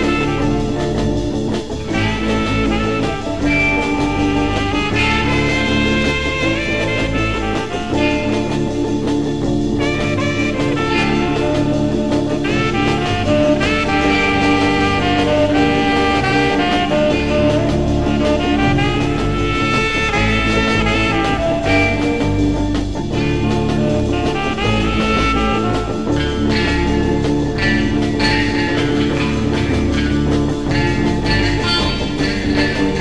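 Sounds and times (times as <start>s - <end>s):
jazz music with horns: 0.0s - 33.0s.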